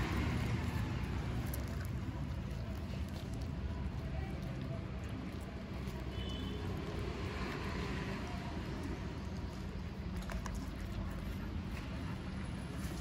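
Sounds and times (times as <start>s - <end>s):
street background rumble: 0.0s - 13.0s.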